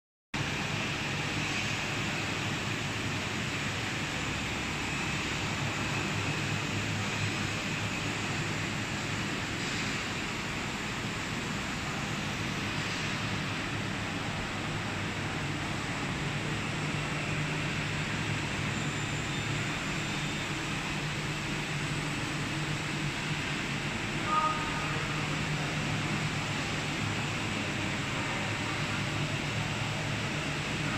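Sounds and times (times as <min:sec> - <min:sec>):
factory hall hiss: 0:00.4 - 0:30.9.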